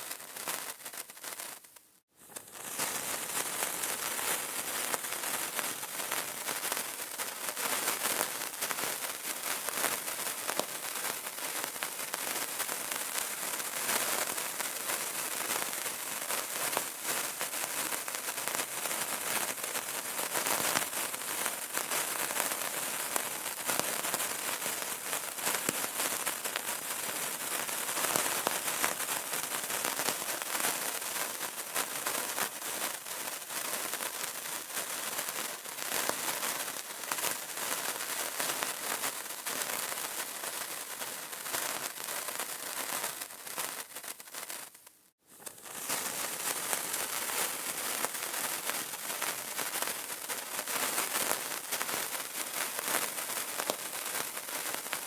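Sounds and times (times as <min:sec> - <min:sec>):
candle crackling: 0:00.0 - 0:55.0.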